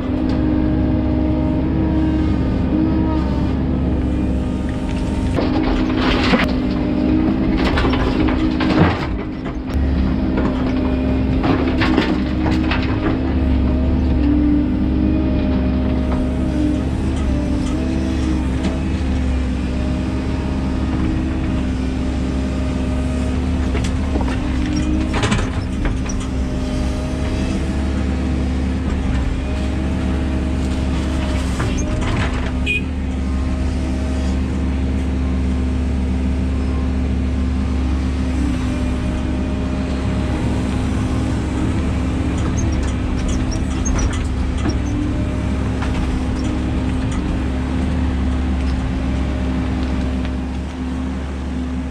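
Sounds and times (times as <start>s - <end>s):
excavator diesel engine and hydraulics: 0.0s - 51.9s.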